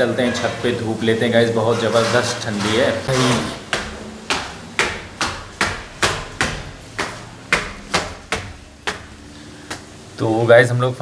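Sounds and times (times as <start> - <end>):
footsteps climbing stairs: 0.0 - 10.2.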